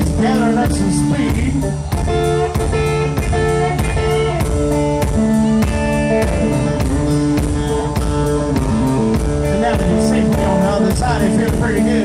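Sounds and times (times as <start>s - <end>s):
drum kit: 0.0s - 12.0s
electric guitar: 0.0s - 12.0s
upright bass: 0.0s - 12.0s.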